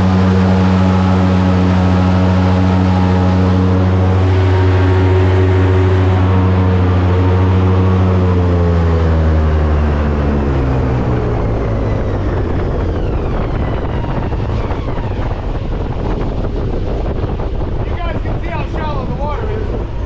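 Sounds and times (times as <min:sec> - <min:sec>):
airboat engine and propeller drone: 0:00.0 - 0:20.0.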